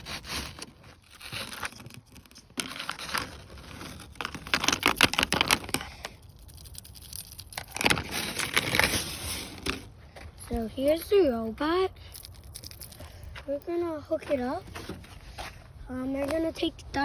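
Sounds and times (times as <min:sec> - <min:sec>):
gear rustling and crinkling: 0:00.0 - 0:16.9.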